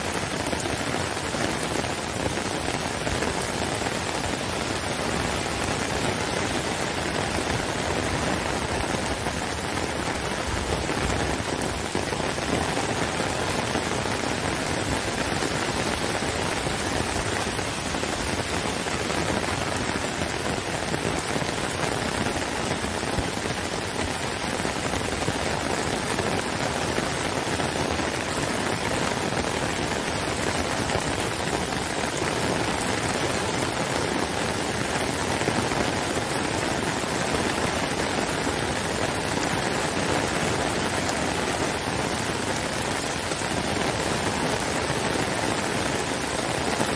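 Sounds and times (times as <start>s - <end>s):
heavy rain on paving: 0.0s - 46.9s.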